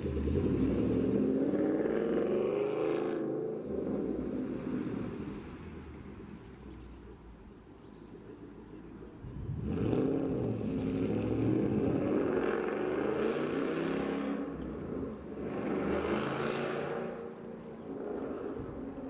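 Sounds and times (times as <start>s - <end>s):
car engine revving: 0.0s - 6.4s, 9.3s - 19.0s.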